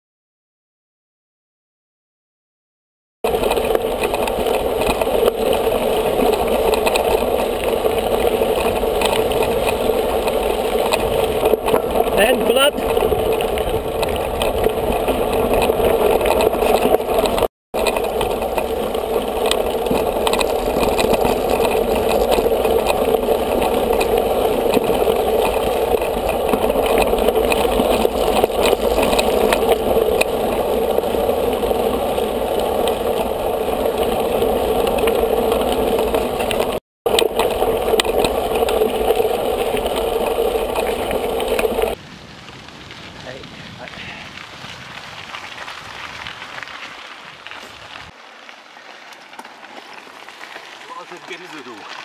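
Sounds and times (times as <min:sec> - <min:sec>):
wind rumble: 0:03.2 - 0:49.1
bike rolling over gravel: 0:03.2 - 0:52.0.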